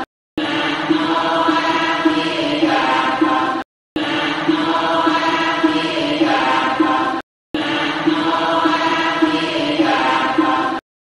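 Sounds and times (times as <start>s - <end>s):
person chanting: 0.0s - 10.8s.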